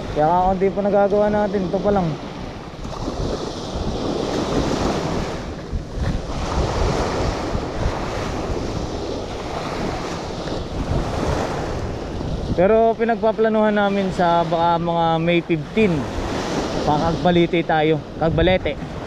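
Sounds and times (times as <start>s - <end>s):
sea waves washing on shore: 0.0s - 19.0s
wind rumbling on microphone: 0.0s - 19.0s.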